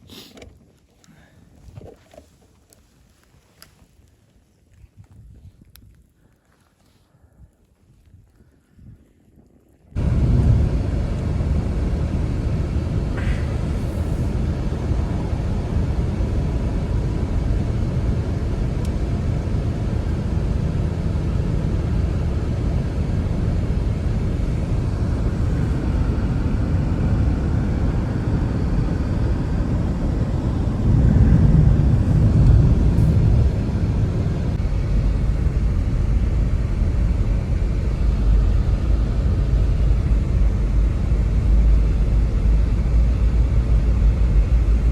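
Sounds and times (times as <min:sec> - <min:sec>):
strong blizzard wind: 0:04.7 - 0:44.9.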